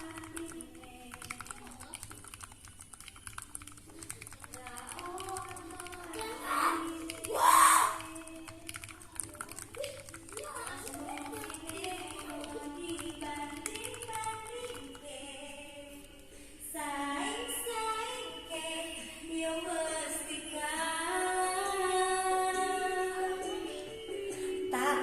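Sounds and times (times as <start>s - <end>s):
woman singing with music: 0.0s - 1.6s, 4.5s - 9.2s, 10.8s - 25.0s.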